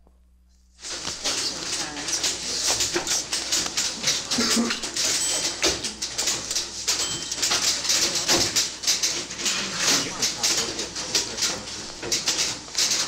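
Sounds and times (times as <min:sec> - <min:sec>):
typewriters clattering: 0:00.8 - 0:13.0.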